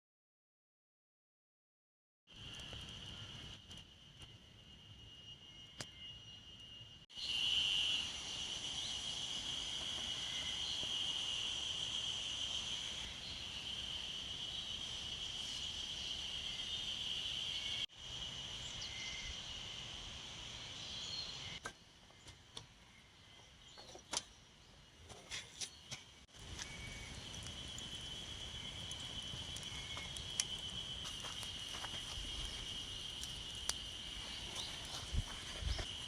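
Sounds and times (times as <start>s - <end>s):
insects trilling: 2.3s - 36.0s.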